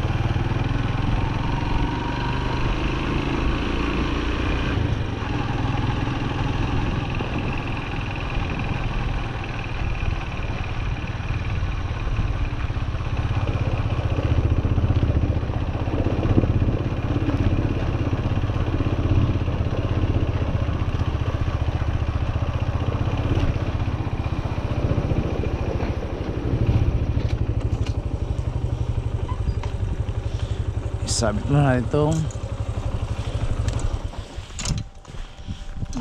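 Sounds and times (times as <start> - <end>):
motorbike engine running: 0.0 - 36.0.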